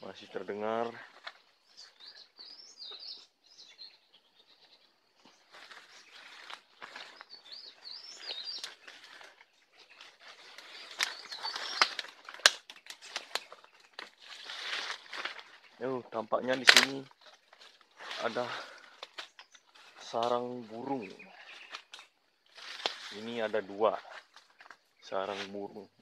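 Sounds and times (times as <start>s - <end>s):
leaves and twigs rustling: 0.0s - 26.0s
songbird singing chirpy phrases: 0.0s - 26.0s.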